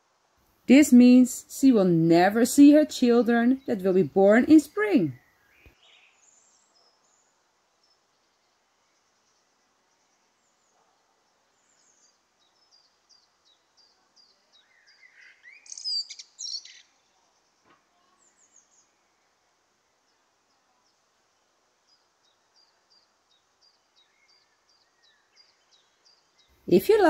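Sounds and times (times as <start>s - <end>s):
birds chirping: 0.7s - 27.0s.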